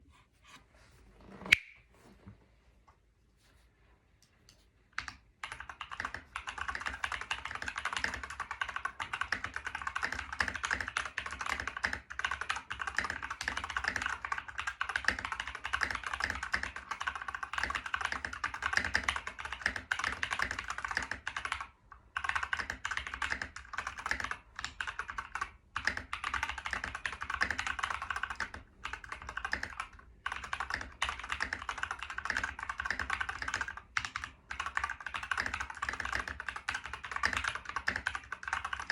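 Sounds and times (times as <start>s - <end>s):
fast typing on mechanical keyboard: 5.0s - 38.9s.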